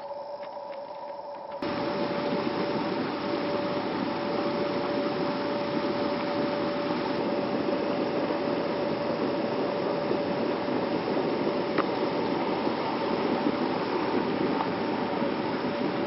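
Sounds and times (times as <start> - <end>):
faint steady hum: 0.0 - 16.0
stream water rushing over rocks: 1.6 - 16.0.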